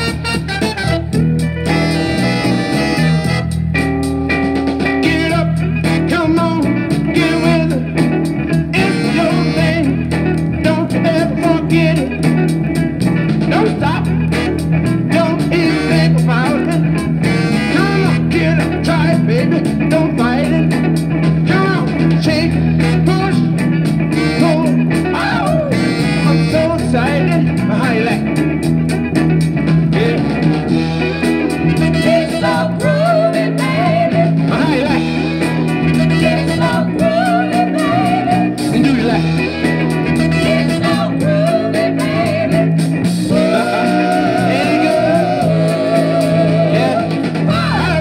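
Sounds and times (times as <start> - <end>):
upbeat soul song from a record: 0.0 - 48.0.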